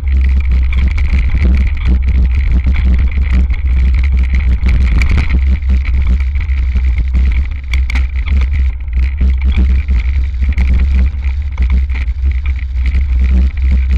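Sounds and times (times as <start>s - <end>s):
bike rattling and knocking: 0.0s - 13.9s
wind rumble on microphone: 0.0s - 13.9s.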